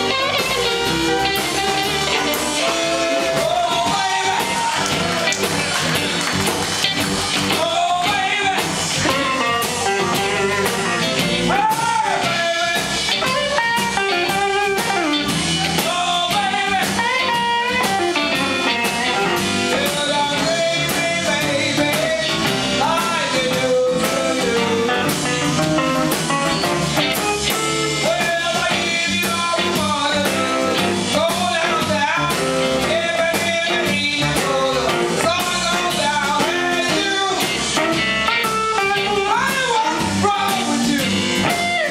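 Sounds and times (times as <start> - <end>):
blues-rock band playing: 0.0 - 41.9.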